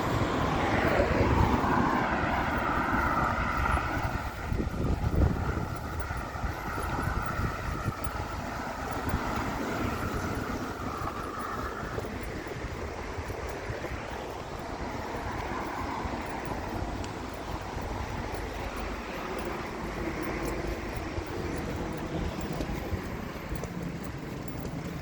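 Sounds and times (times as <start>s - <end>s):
constant low rumble: 0.0s - 25.0s
passing vehicle drone: 0.0s - 25.0s.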